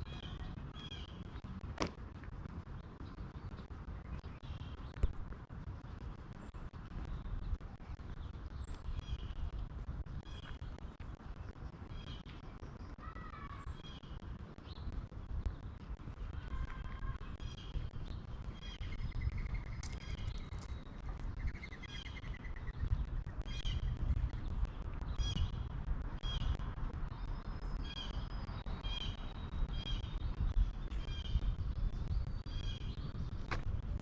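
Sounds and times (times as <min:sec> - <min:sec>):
songbirds chirping: 0:00.0 - 0:34.0
steady low rumble: 0:00.0 - 0:34.0.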